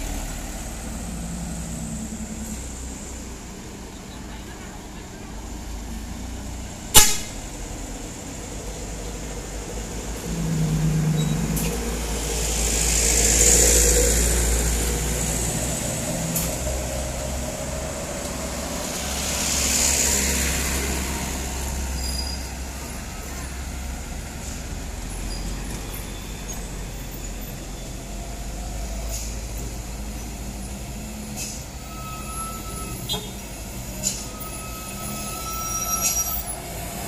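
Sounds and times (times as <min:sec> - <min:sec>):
trucks passing with diesel engines: 0:00.0 - 0:37.0.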